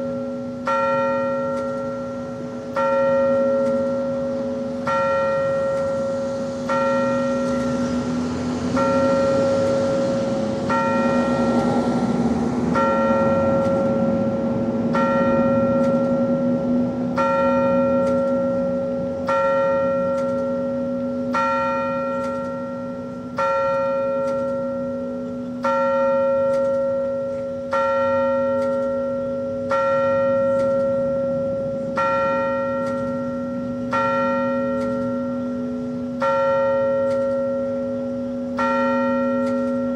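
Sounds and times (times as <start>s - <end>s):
large bell tolling: 0.0s - 39.9s.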